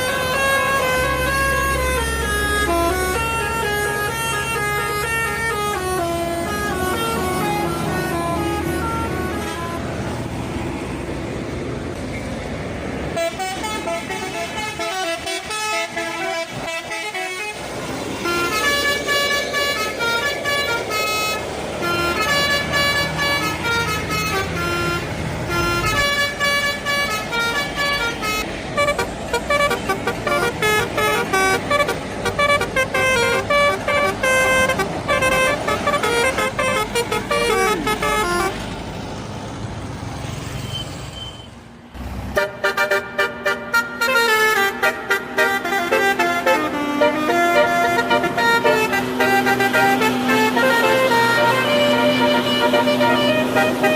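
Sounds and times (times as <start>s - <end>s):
melodic bus air horn: 0.0s - 10.3s, 13.1s - 38.7s, 42.3s - 53.9s
vehicle engine noise: 0.0s - 53.9s.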